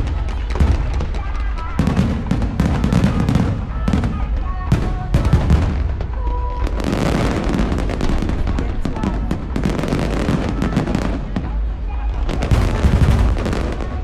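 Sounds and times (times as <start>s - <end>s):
firework crackling: 0.0s - 14.0s
fireworks bangs: 0.0s - 14.0s.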